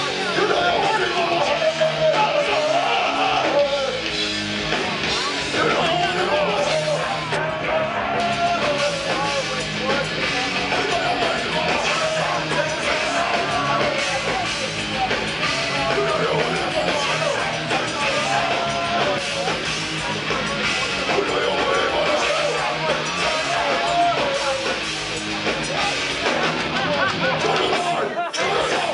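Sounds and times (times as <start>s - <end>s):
distorted guitar: 0.0s - 28.9s
drums: 0.0s - 28.9s
yelled vocals: 0.0s - 28.9s.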